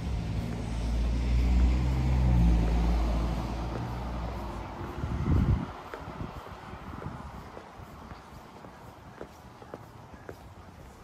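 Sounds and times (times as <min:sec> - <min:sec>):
car passing: 0:00.0 - 0:08.8
footsteps on pavement: 0:00.0 - 0:11.0
street noise: 0:00.0 - 0:11.0
wind buffeting microphone: 0:01.5 - 0:11.0.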